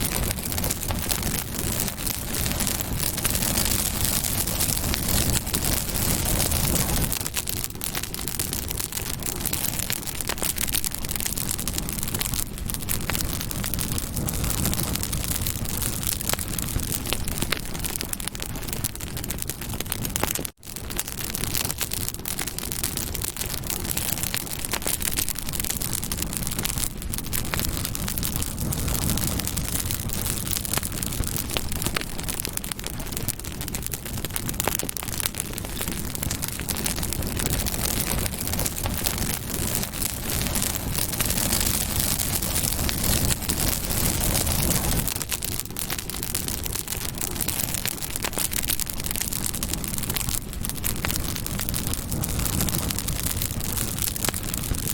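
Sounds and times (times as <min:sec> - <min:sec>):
campfire crackling and popping: 0:00.0 - 0:54.9
hiss of burning wood: 0:00.0 - 0:54.9.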